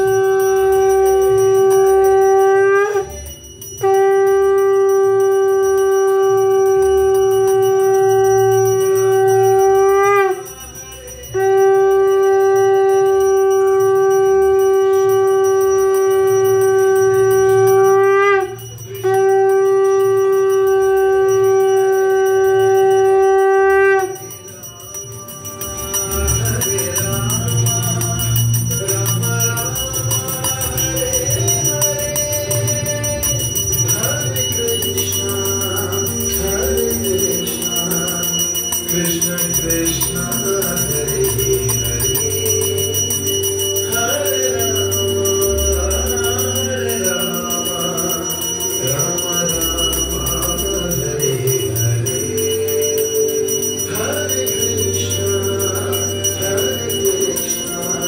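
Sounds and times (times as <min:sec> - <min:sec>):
bells ringing: 0:00.0 - 0:58.0
conch shell blasts: 0:00.0 - 0:58.0
music: 0:00.0 - 0:58.0.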